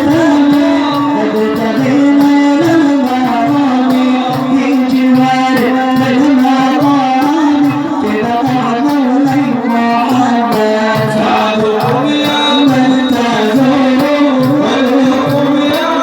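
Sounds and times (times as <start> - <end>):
devotional singing: 0.0 - 16.0
steady percussion beat: 0.0 - 16.0.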